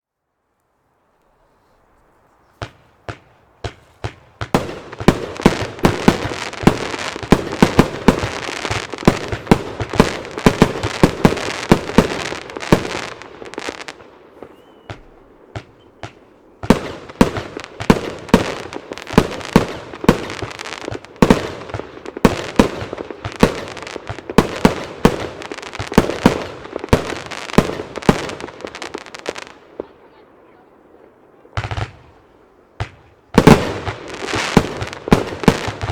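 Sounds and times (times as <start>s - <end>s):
fireworks firing shots: 2.6s - 30.6s, 31.4s - 35.9s.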